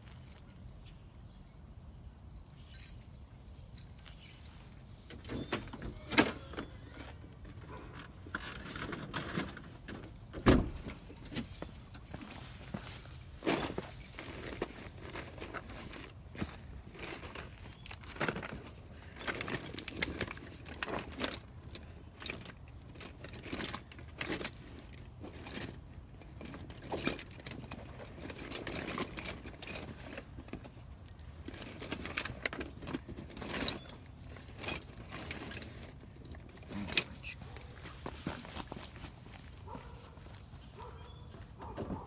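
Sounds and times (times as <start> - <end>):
metal tools clinking: 0.1 - 7.1, 10.8 - 40.1.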